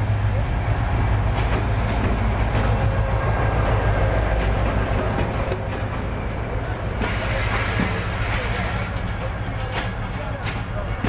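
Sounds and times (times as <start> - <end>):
diesel locomotive hum: 0.0 - 11.0
high-pitched squeal: 0.2 - 9.7.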